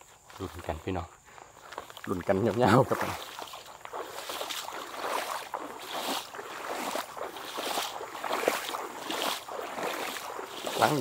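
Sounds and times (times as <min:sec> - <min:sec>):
footsteps wading through water: 0:00.0 - 0:11.0
wet grass swishing: 0:01.6 - 0:11.0.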